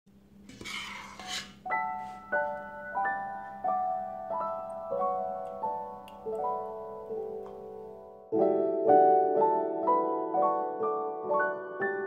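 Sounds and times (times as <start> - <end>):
slow piano melody: 1.6 - 12.0.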